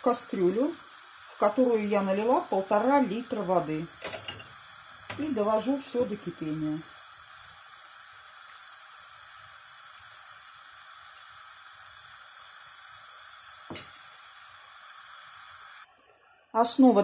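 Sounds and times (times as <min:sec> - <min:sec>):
pot of water hissing: 0:00.0 - 0:17.0.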